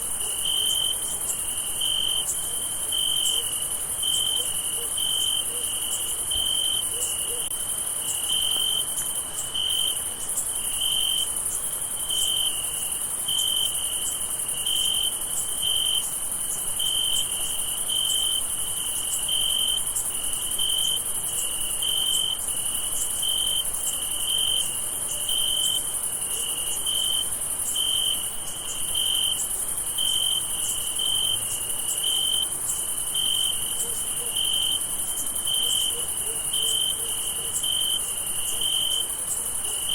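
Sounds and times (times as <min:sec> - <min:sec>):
cricket chirping: 0:00.0 - 0:39.9
insect chorus trilling: 0:00.0 - 0:39.9.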